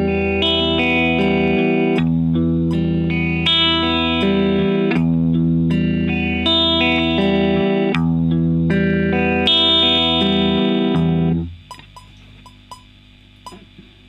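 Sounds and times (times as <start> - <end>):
electric guitar arpeggio fingerpicked: 0.0 - 11.8.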